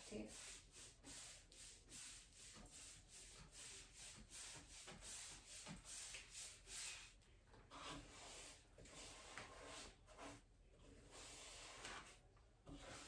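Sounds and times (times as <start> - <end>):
paint sponge rubbing on wood: 0.0 - 13.0.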